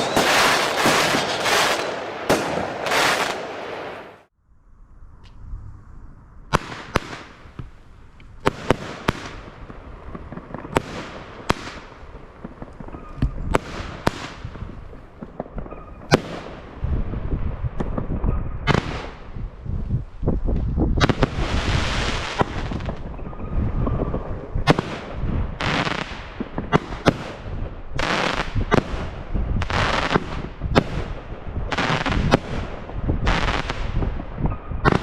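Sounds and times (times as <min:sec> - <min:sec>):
firework bangs: 0:00.0 - 0:04.3, 0:06.5 - 0:07.8, 0:08.4 - 0:19.6, 0:20.5 - 0:35.0.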